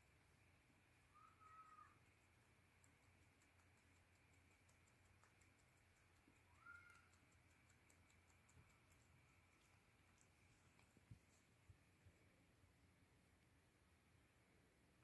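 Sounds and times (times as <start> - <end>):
faint irregular ticking: 0.0 - 14.0.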